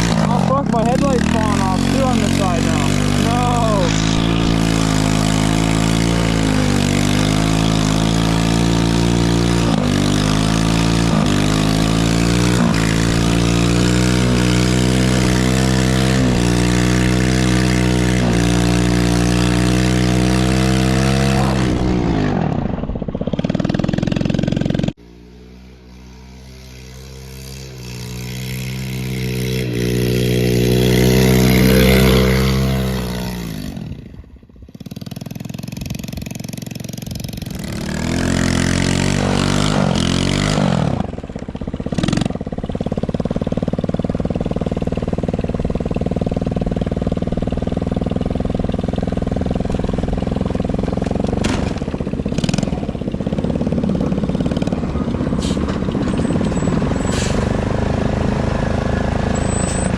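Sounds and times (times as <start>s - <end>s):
small engine revving: 0.0s - 59.9s.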